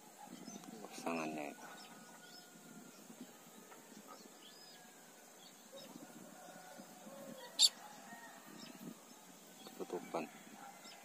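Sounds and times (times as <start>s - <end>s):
faint bird chirps: 0.2s - 11.0s.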